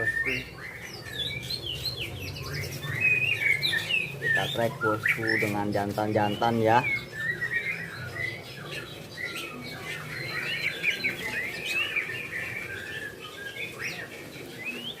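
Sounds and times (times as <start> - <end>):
songbird whistling song: 0.0 - 15.0.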